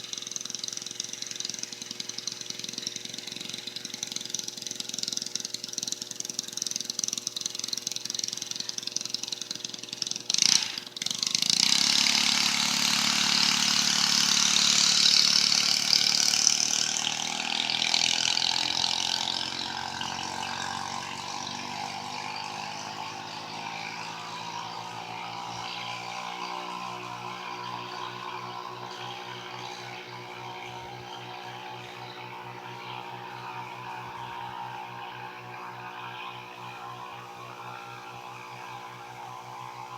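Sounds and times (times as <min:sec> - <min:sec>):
mini bike engine running: 0:00.0 - 0:39.9
mini bike passing at speed: 0:00.0 - 0:39.9.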